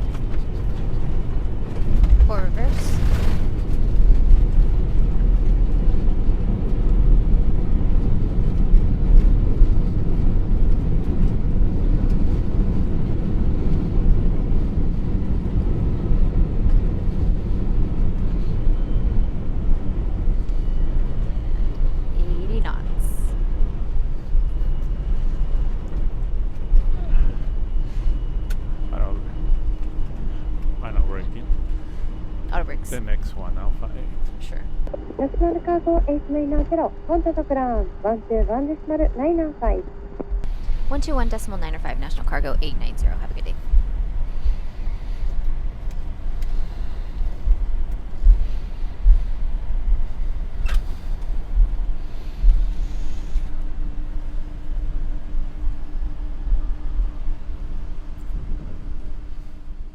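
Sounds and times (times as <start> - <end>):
low rumble in jet cockpit: 0.0 - 59.9.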